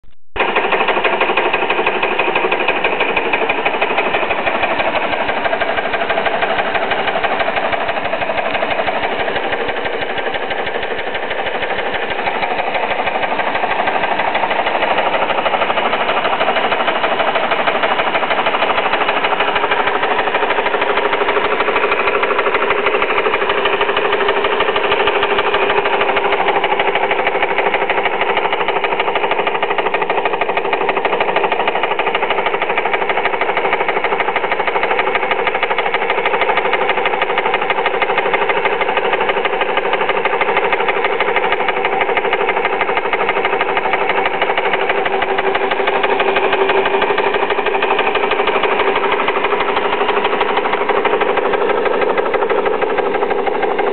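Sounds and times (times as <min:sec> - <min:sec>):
steam engine running: 0:00.4 - 0:53.9.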